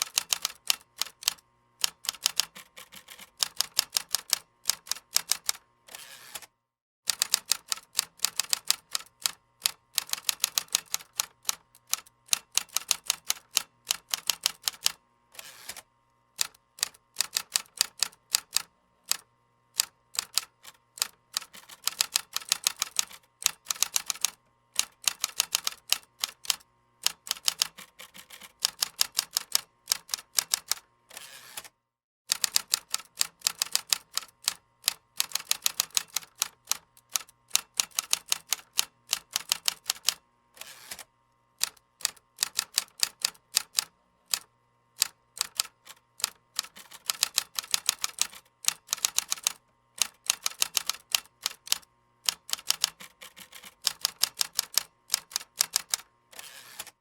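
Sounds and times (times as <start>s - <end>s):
computer keyboard typing: 0.0s - 5.6s, 7.1s - 15.0s, 16.4s - 19.2s, 19.8s - 30.8s, 32.3s - 40.2s, 41.6s - 56.1s.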